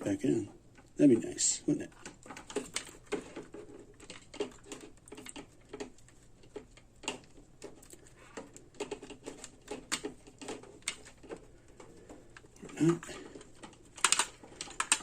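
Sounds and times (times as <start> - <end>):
plastic parts clicking and tapping: 1.7 - 15.0.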